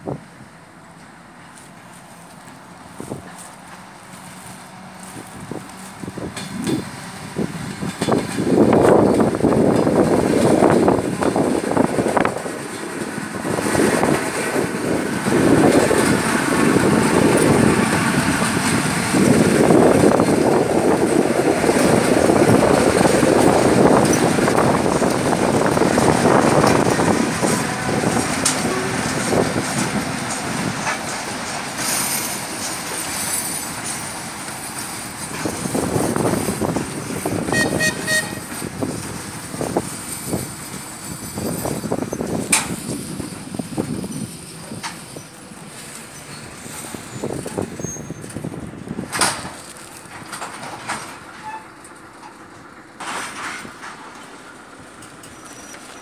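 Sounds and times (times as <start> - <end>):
diesel locomotive rolling by: 0.0 - 56.0
train wheels rumbling on rails: 0.0 - 56.0.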